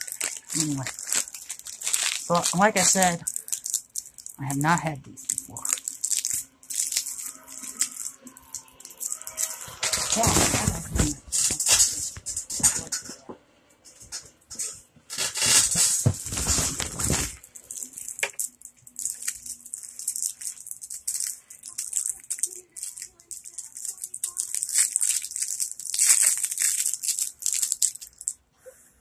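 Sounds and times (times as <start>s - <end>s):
plastic bag crinkling: 0.0s - 12.9s, 14.5s - 28.4s.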